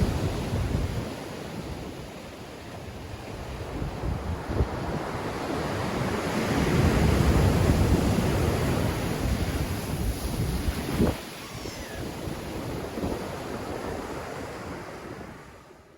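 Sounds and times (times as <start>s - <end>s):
wind buffeting microphone: 0.0s - 2.0s, 3.0s - 15.4s
waves breaking and washing in: 0.0s - 15.9s.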